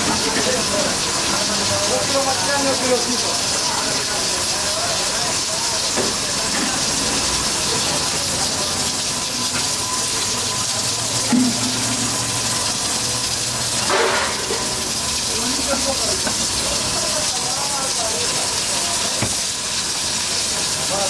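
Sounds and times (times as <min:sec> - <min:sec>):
steam hissing from pressure cookers: 0:00.0 - 0:21.0.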